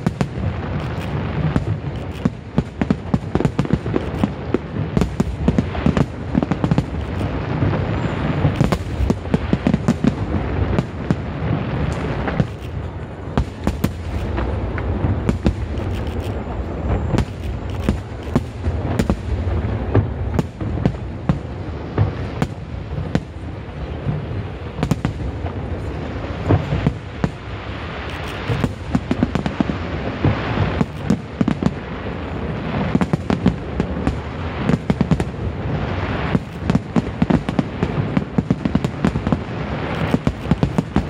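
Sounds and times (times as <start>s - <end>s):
fireworks booms and cracks: 0.0s - 41.0s.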